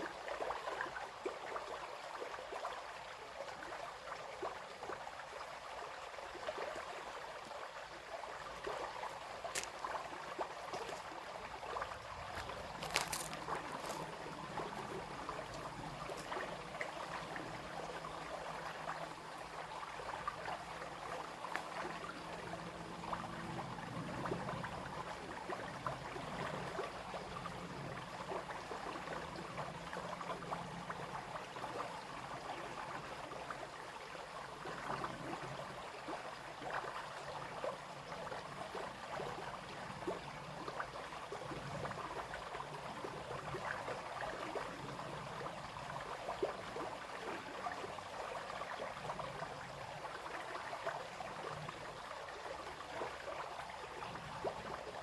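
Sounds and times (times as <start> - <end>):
brook babbling over stones: 0.0 - 55.0.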